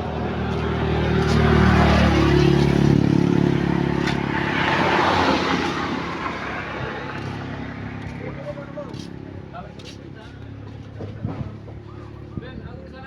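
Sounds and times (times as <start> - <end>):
large truck engine running: 0.0 - 12.6.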